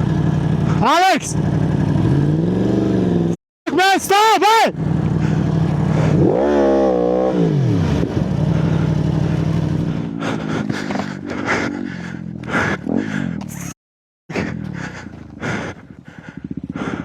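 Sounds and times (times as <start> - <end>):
motorcycle engine revving: 0.0 - 3.4, 4.7 - 17.0.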